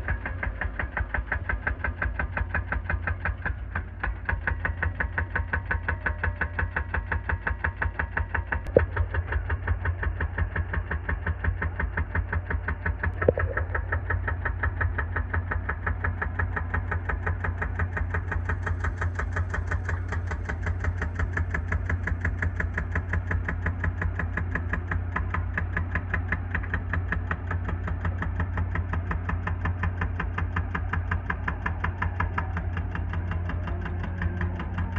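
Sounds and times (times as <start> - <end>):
diesel engine chugging: 0.0 - 34.9.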